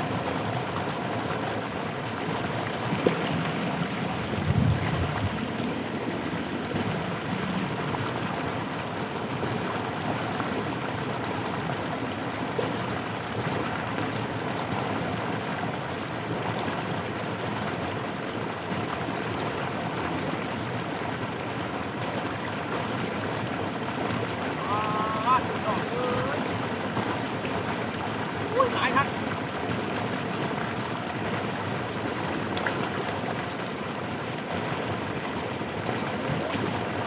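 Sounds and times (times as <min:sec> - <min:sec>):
floodwater rushing through channel: 0:00.0 - 0:37.0.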